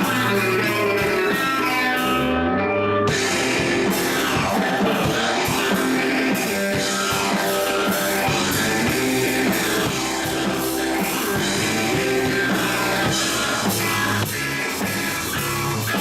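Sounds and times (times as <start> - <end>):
drums and cymbals: 0.0 - 2.3, 3.1 - 16.0
rock guitar: 0.0 - 16.0.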